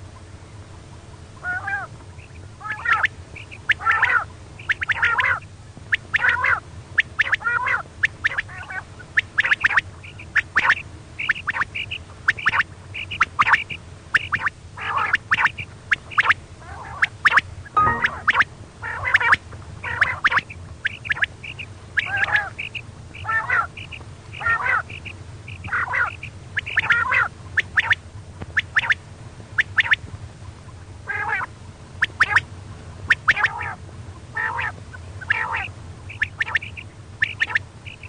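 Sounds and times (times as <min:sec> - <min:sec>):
steady low hum: 0:00.0 - 0:38.0
quail calling: 0:01.4 - 0:28.0, 0:29.6 - 0:30.0, 0:31.1 - 0:32.4, 0:33.1 - 0:38.0.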